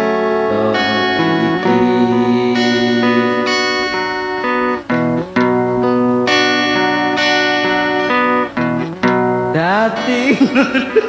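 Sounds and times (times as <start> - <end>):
guitar playing sustained chords: 0.0 - 11.0.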